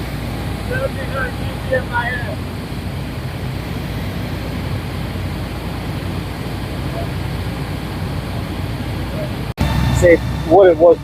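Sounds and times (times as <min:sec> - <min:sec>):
fire engine rumbling: 0:00.0 - 0:11.0
water rushing: 0:00.0 - 0:11.0.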